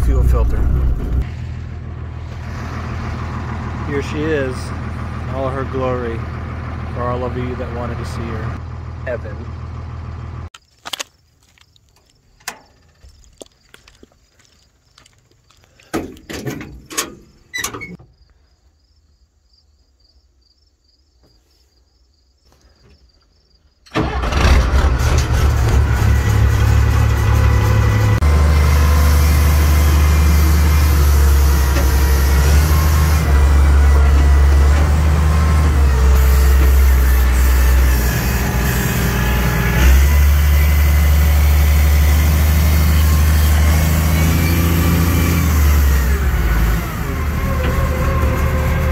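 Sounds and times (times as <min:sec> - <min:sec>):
truck engine starting and running: 0:00.0 - 0:11.1, 0:15.0 - 0:18.1, 0:23.8 - 0:48.9.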